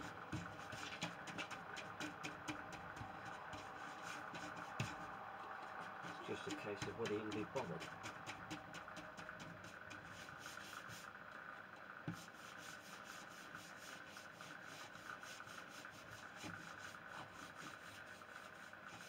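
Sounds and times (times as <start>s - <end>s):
hand rubbing wax into wood: 0.0s - 11.1s, 12.1s - 19.0s.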